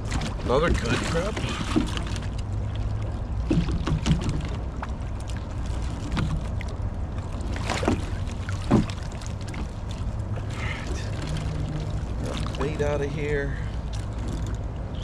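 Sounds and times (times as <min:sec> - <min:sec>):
boat motor idling hum: 0:00.0 - 0:15.0.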